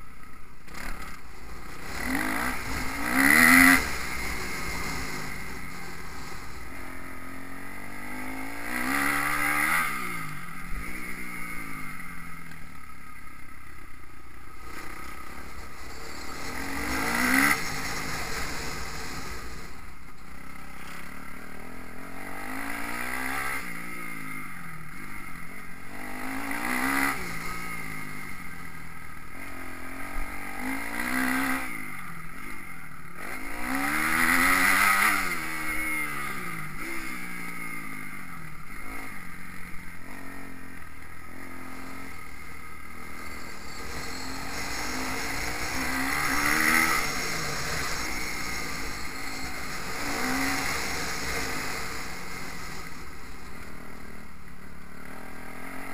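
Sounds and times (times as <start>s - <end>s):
motocross bike engines revving: 0.2s - 55.9s.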